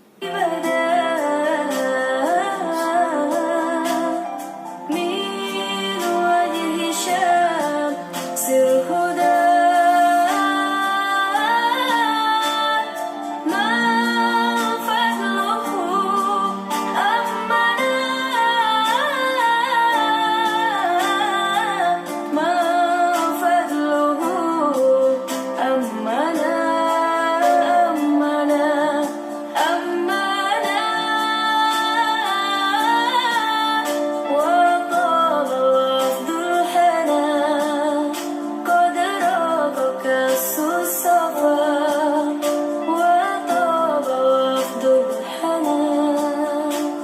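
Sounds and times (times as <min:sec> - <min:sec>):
music through tv speakers: 0:00.0 - 0:47.0
woman singing: 0:00.0 - 0:47.0.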